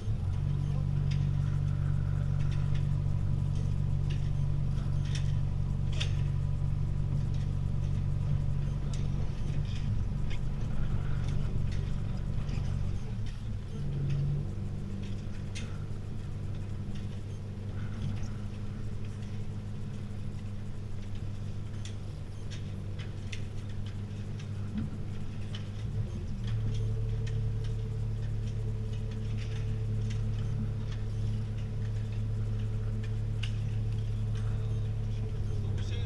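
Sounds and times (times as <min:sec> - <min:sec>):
boat diesel engine running: 0:00.0 - 0:36.0
light clicks and ticks: 0:00.0 - 0:36.0.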